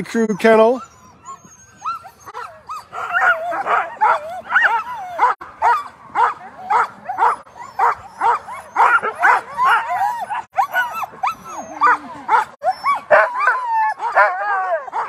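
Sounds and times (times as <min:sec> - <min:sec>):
dogs barking and yelping: 0:00.1 - 0:15.0.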